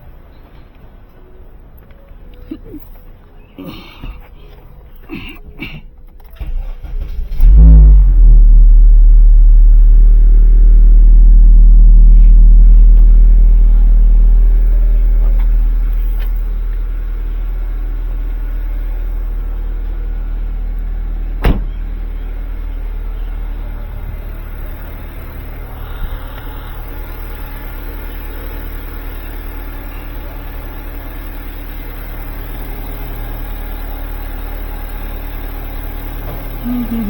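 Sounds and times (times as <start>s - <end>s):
car engine starting and idling: 0.0s - 37.0s.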